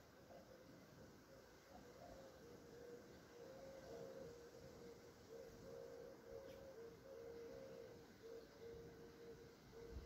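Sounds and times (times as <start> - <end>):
faint wavering tone: 0.2 - 10.0.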